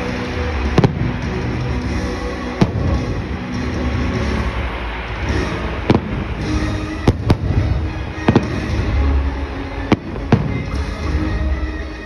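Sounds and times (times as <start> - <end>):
show music: 0.0 - 12.0.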